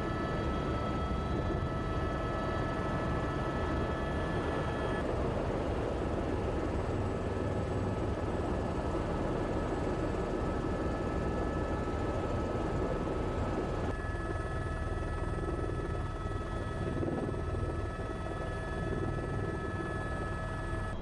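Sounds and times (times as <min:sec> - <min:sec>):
faint high whines: 0:00.0 - 0:21.0.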